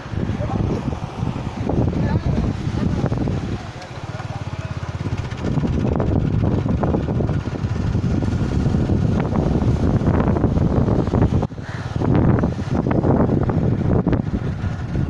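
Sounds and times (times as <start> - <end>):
wind rumbling on microphone: 0.0 - 15.0
motorcycle engine pulsing: 0.1 - 15.0.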